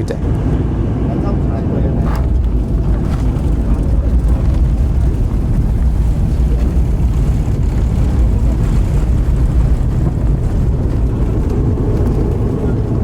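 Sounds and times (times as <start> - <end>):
aircraft rumble: 0.0 - 13.0.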